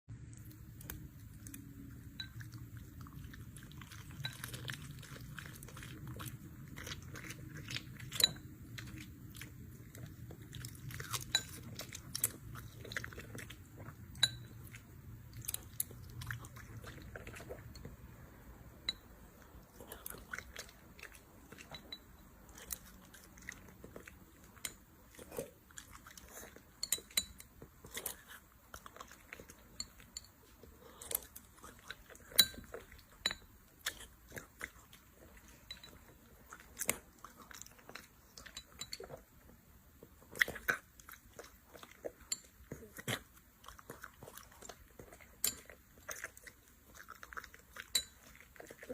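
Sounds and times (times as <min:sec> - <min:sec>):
puppy crunching food: 0:00.1 - 0:48.9.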